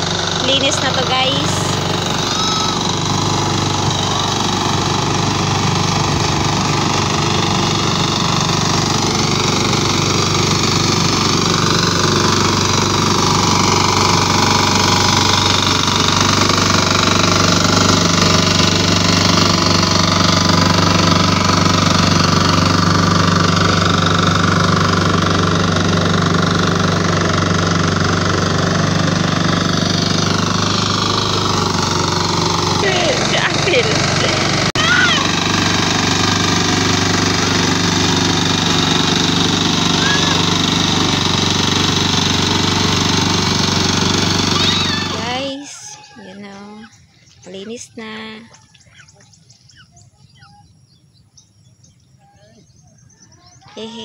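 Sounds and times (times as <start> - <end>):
hand tractor engine running: 0.0 - 49.9.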